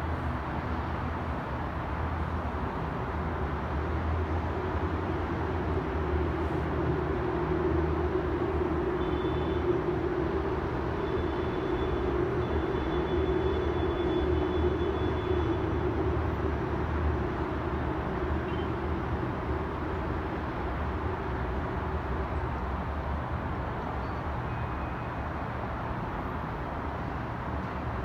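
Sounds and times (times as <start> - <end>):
distant city traffic rumble: 0.0 - 28.0.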